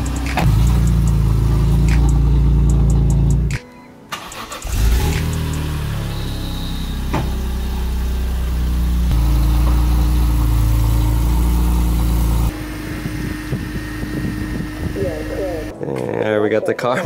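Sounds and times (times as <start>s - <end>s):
car engine idling: 0.0s - 3.5s, 4.1s - 15.7s.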